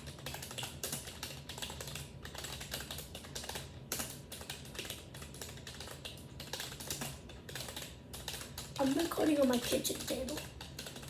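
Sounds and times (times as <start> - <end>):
typing on computer keyboard: 0.0 - 11.0.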